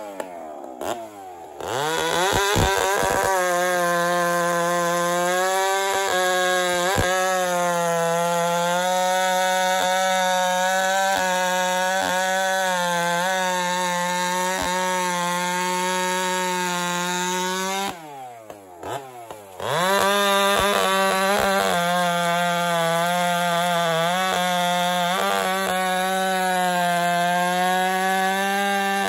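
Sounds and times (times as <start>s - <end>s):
chainsaw cutting a log: 0.0s - 29.0s.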